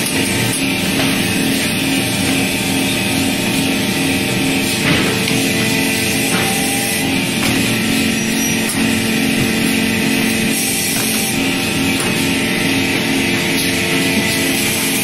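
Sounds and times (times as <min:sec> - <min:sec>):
loud machine hum: 0:00.0 - 0:15.0.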